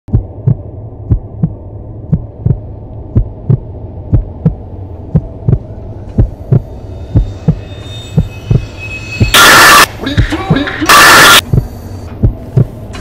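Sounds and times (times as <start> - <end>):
heartbeat thumps: 0.1 - 7.6, 9.2 - 12.8
steady low hum: 0.1 - 13.0.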